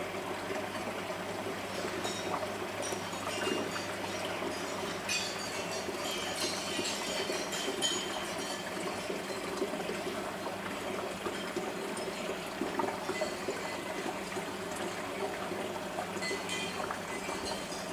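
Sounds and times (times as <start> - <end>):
aquarium water trickling: 0.0 - 17.9.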